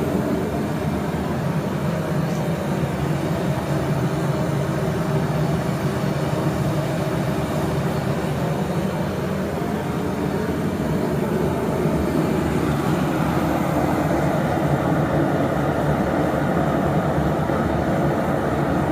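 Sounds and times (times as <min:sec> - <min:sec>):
gas burners roaring: 0:00.0 - 0:18.9.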